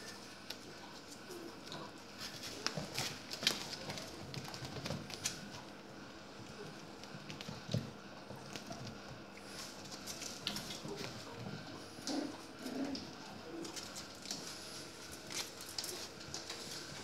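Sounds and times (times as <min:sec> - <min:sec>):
puppies' claws clicking and scuffing: 0:00.0 - 0:17.0.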